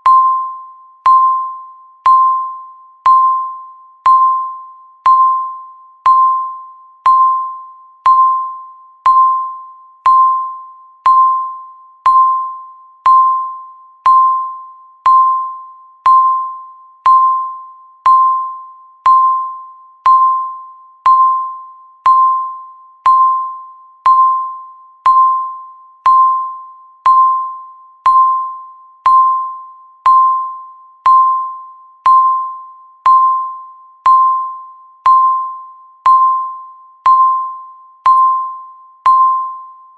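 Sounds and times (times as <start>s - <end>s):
timer beeping chime: 0.0s - 39.9s.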